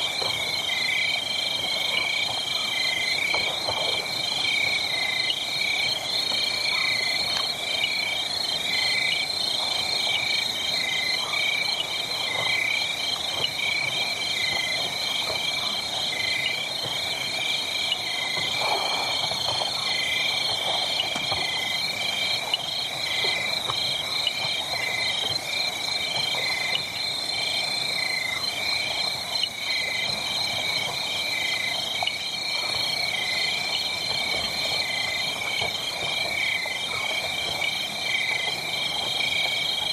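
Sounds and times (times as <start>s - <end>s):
frogs and insects trilling: 0.0s - 39.9s.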